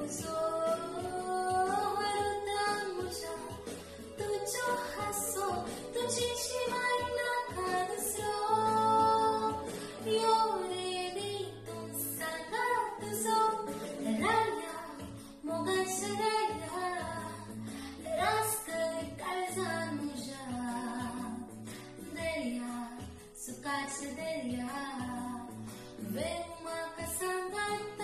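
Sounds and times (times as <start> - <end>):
guitar and bass accompaniment: 0.0 - 28.0
woman singing: 0.0 - 28.0.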